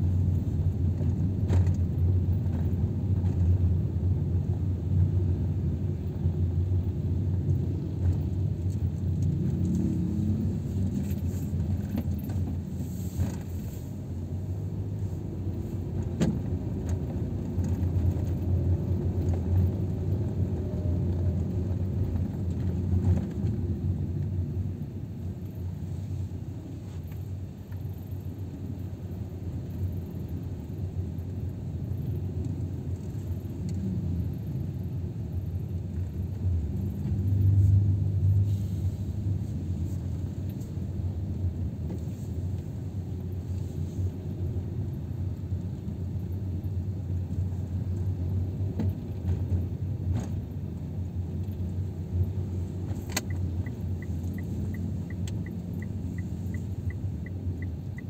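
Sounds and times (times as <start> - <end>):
car engine rumble: 0.0 - 58.0
road noise: 0.0 - 58.0.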